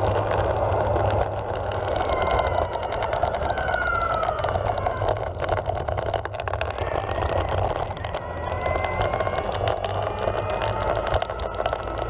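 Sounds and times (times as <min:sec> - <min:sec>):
skateboard wheels rumbling on asphalt: 0:00.0 - 0:12.0
small clicks and ticks: 0:00.0 - 0:12.0.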